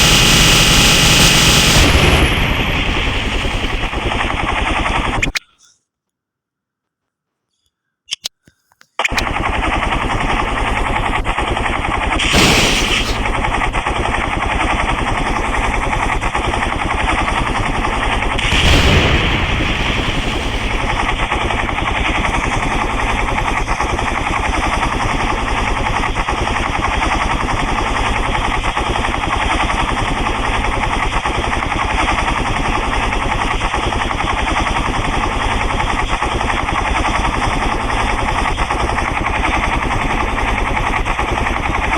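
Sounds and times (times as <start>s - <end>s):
helicopter rotor chop: 0.0s - 5.3s, 9.0s - 41.9s.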